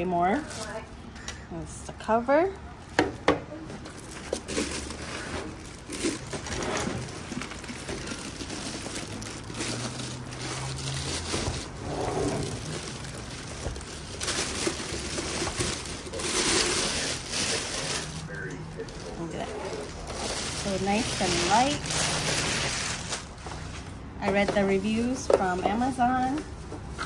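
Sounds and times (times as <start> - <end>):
plastic packaging crinkling: 0.2 - 0.9, 3.9 - 27.0.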